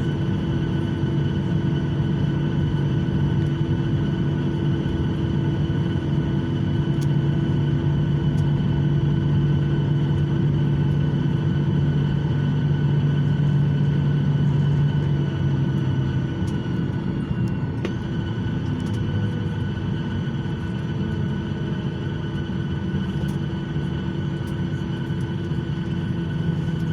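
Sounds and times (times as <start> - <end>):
airliner cabin engine hum: 0.0 - 26.9.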